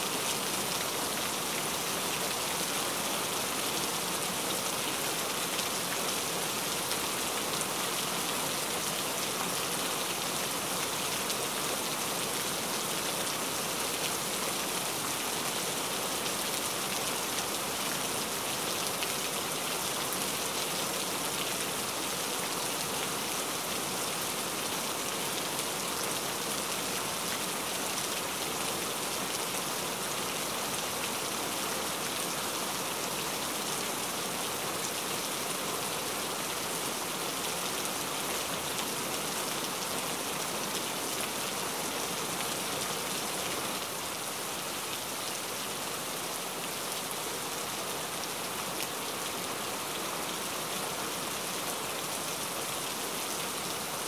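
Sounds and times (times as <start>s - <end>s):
steady rain in forest: 0.0s - 54.0s.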